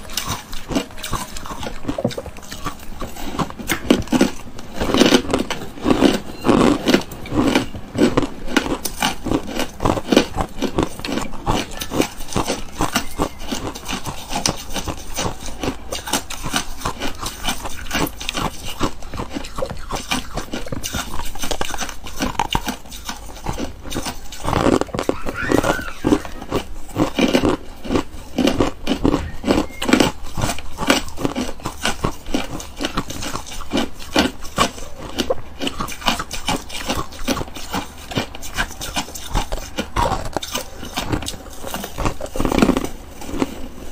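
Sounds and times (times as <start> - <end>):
ice crunching and chewing: 0.0 - 43.9.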